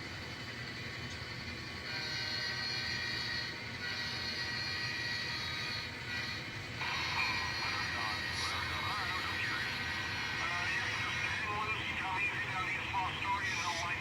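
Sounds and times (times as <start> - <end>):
model train humming on track: 0.0 - 14.0.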